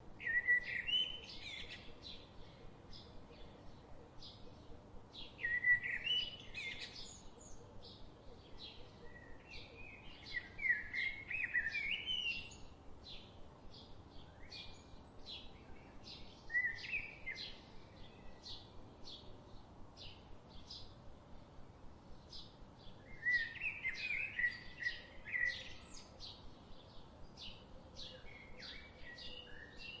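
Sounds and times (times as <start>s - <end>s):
bird warbling song: 0.2s - 19.3s, 22.2s - 30.0s.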